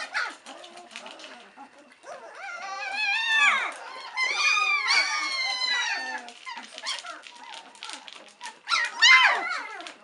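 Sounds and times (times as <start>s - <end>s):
puppies scratching on quilt: 0.0s - 10.0s
puppies whining and crying: 0.0s - 10.0s.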